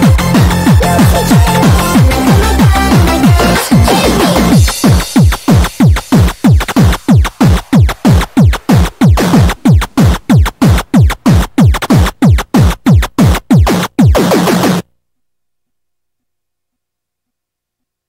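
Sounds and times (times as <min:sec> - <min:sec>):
distorted kick drum: 0:00.0 - 0:14.9
electronic dance music: 0:00.0 - 0:14.9.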